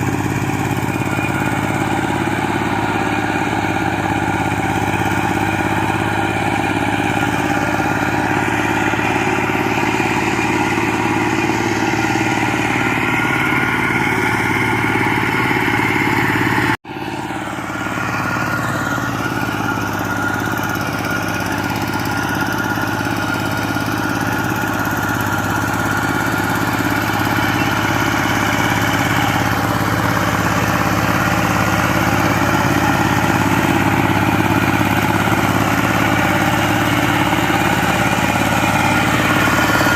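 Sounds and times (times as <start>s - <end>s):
power tiller engine running: 0.0s - 39.9s.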